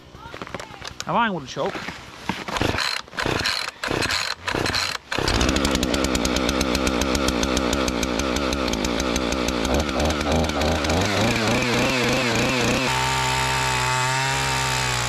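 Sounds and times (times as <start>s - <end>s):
chainsaw pull-started and running: 2.3s - 15.0s.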